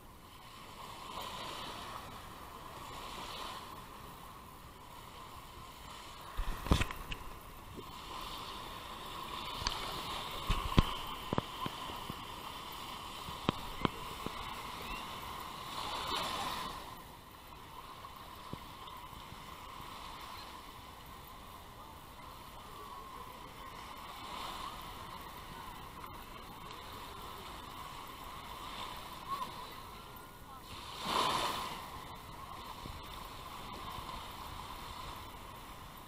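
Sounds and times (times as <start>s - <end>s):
small waves lapping: 0.0s - 36.0s.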